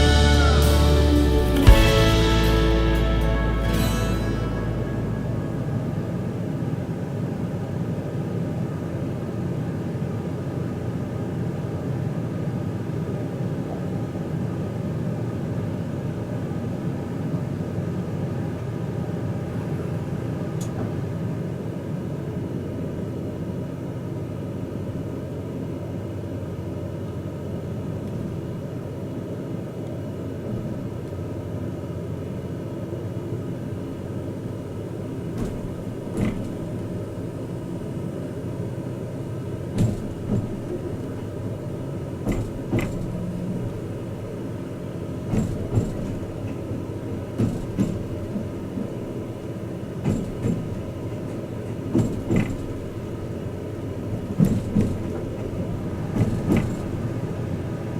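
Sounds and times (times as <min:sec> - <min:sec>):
train rumble from inside car: 0:00.0 - 0:22.6, 0:30.0 - 0:57.9.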